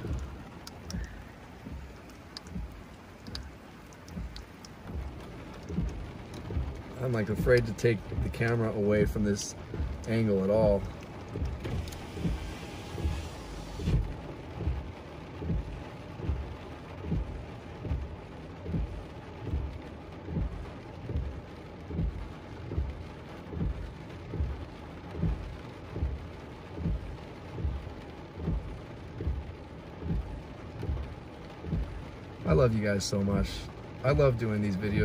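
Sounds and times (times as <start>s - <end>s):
rain on a car: 0.0s - 35.0s
regular low thump: 0.0s - 35.0s.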